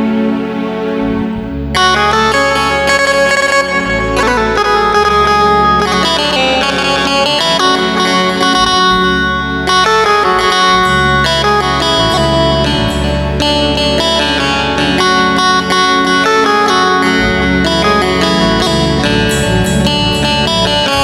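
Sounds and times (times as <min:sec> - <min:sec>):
held low bass notes: 0:00.0 - 0:21.0
plucked banjo melody on keyboard: 0:00.0 - 0:21.0.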